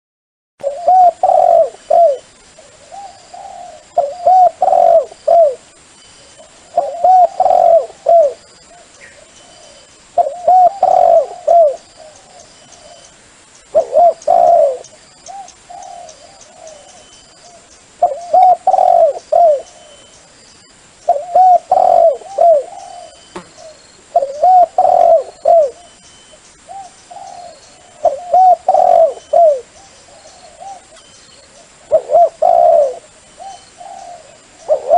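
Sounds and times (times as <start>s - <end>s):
dove cooing: 0.6s - 5.7s, 6.3s - 20.1s, 21.0s - 26.0s, 26.6s - 34.9s.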